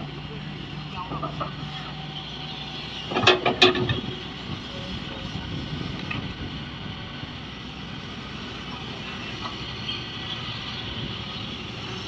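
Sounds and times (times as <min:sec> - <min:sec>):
excavator running: 0:00.0 - 0:12.0.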